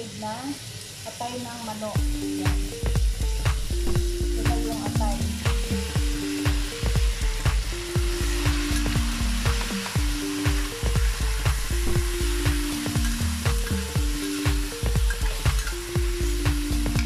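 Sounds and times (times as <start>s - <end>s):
meat sizzling in a frying pan: 0.0s - 17.0s
music with deep drum beat and synth: 2.0s - 17.0s.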